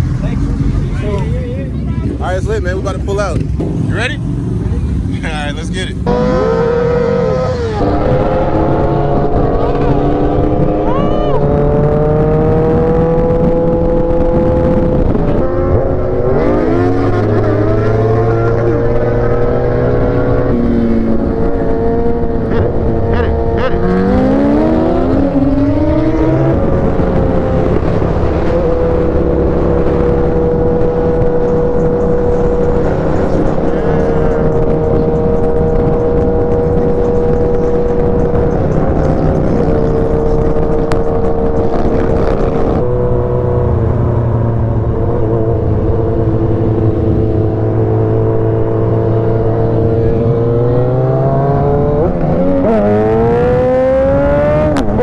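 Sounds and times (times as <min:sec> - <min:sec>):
motorcycle engine running: 0:00.0 - 0:55.0
rushing wind: 0:00.0 - 0:55.0.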